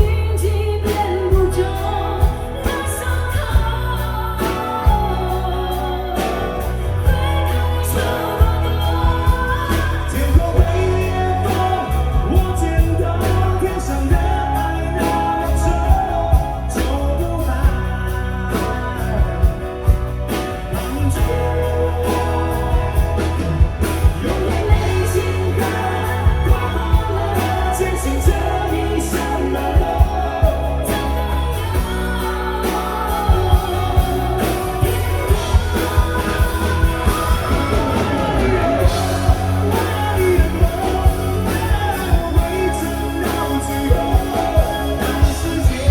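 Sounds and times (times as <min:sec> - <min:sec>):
person singing: 0:00.0 - 0:45.9
pop-rock band playing a ballad: 0:00.0 - 0:45.9.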